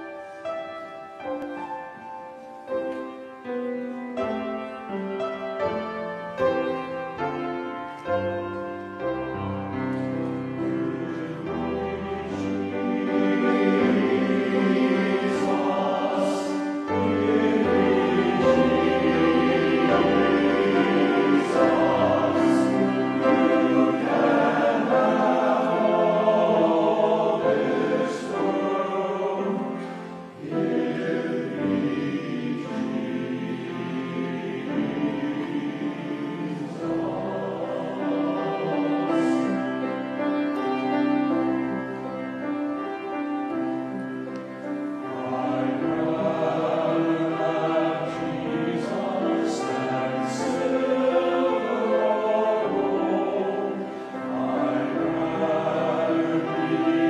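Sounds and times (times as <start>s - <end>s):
men's choir singing a hymn: 4.3s - 57.0s.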